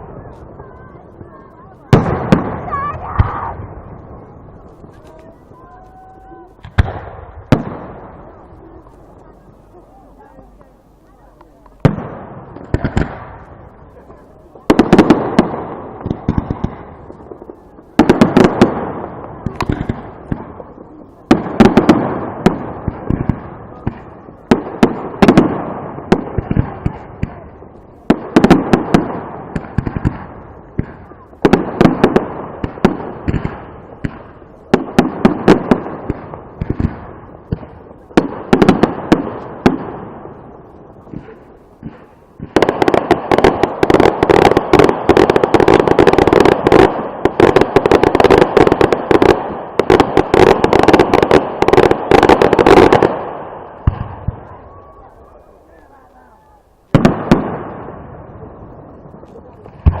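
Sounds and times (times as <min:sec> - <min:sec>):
fireworks banging: 0:00.0 - 1:00.0.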